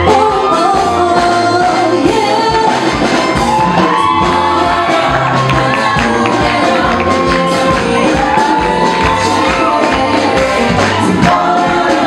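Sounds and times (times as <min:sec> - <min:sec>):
person singing: 0:00.0 - 0:12.0
upbeat band music: 0:00.0 - 0:12.0.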